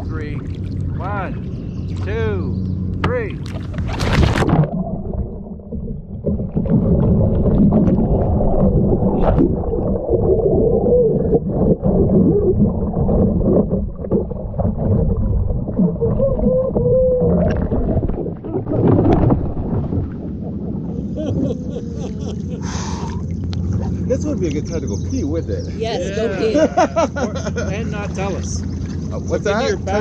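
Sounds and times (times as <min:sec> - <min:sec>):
water splashing: 0:00.0 - 0:25.4, 0:26.6 - 0:30.0
underwater churning and bubbling: 0:00.0 - 0:25.8, 0:26.6 - 0:30.0.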